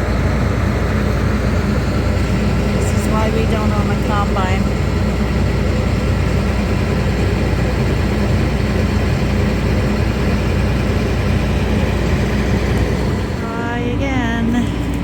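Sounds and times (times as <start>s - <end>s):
combine harvester engine humming: 0.0s - 15.0s.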